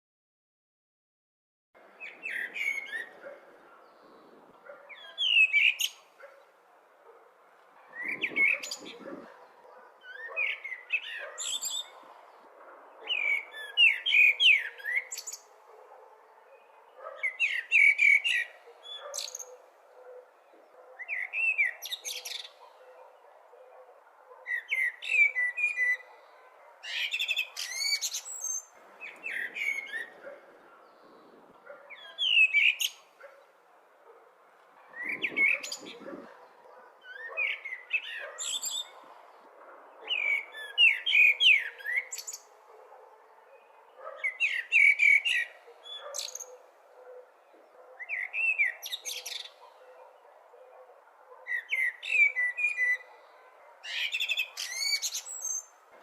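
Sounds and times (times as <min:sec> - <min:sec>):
blackbird singing: 0:02.0 - 0:06.6, 0:07.9 - 0:12.1, 0:12.9 - 0:33.5, 0:34.9 - 0:39.1, 0:39.9 - 0:50.8, 0:51.4 - 0:55.8.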